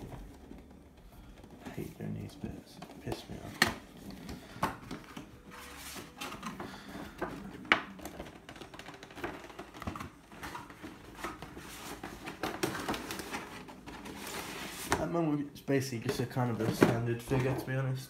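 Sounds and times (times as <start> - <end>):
cardboard box rustling: 0.0 - 15.2.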